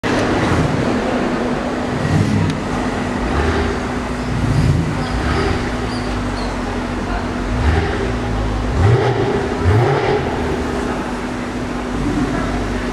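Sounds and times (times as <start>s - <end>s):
constant low hum: 0.0s - 12.9s
traffic engine rumble: 0.0s - 12.9s.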